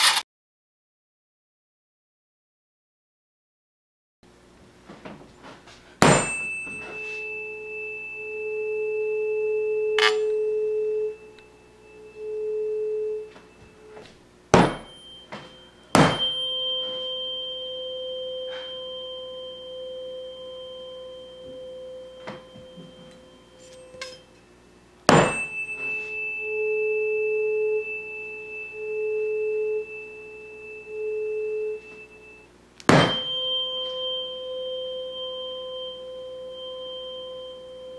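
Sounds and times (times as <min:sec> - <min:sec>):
higher tuning fork ringing: 0:06.0 - 0:37.9
tuning fork resonating in tube: 0:06.0 - 0:37.9.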